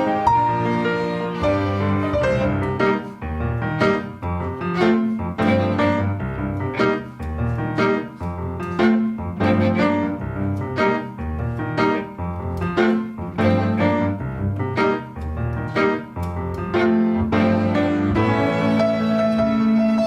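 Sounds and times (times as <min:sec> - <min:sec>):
bowed strings: 0:00.0 - 0:20.0
piano striking chords: 0:00.0 - 0:20.0
walking double bass: 0:00.0 - 0:20.0.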